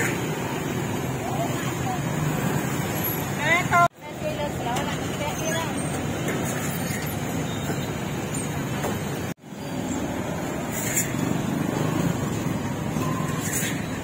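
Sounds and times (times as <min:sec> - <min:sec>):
passing motor vehicles: 0:00.0 - 0:14.0.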